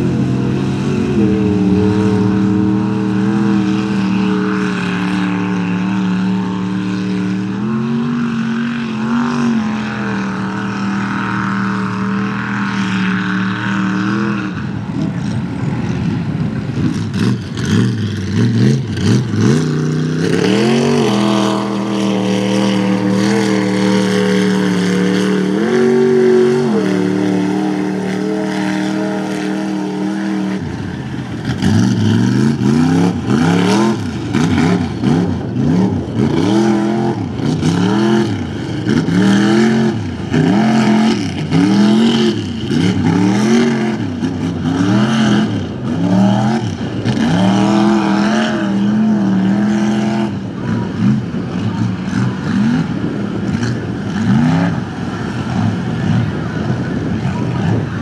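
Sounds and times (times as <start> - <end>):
pickup truck engine revving: 0.0 - 15.5, 16.7 - 58.0.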